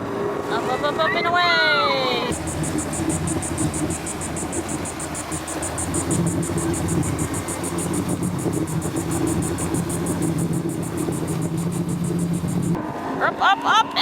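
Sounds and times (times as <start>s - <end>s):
motorboat engine running: 0.0s - 13.3s.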